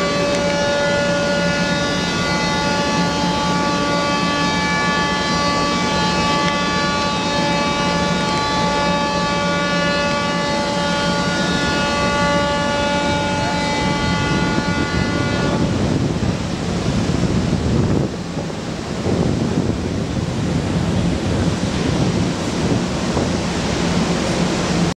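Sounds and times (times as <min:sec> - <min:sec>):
ship horns long blast: 0:00.0 - 0:24.9
wind on microphone: 0:00.0 - 0:24.9.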